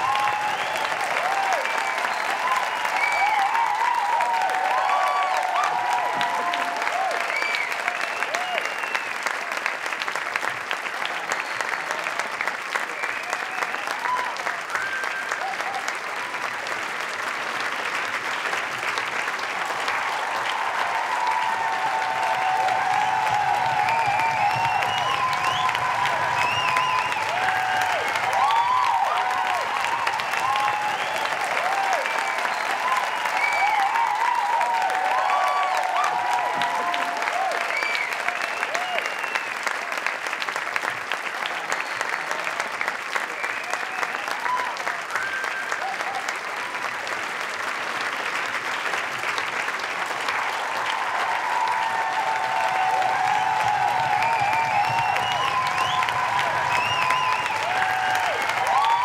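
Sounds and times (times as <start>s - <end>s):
crowd cheering high cries: 0.0s - 10.0s, 11.0s - 16.4s, 19.3s - 40.5s, 41.3s - 46.9s, 50.0s - 59.0s
applause: 0.0s - 59.0s
crowd clapping: 0.0s - 59.0s.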